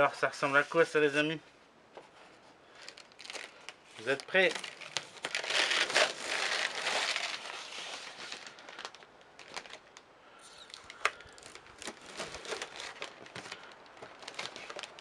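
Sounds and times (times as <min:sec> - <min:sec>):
plastic film crinkling and tearing: 0:02.8 - 0:15.0.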